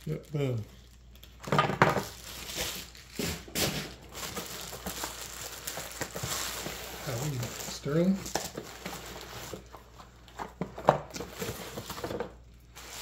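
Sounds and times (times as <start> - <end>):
plastic packing material crinkling: 0.0 - 13.0.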